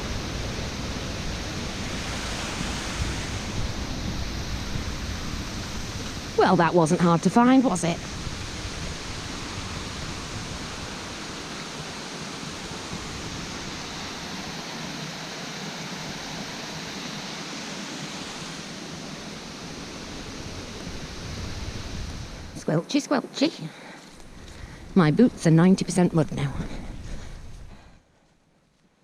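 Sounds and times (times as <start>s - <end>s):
water rushing over weir: 0.0s - 23.4s.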